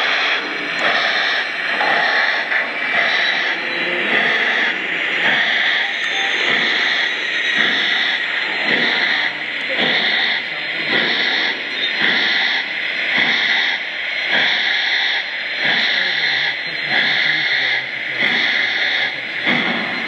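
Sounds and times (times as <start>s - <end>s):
model locomotive steam chuffs: 0.0s - 20.0s.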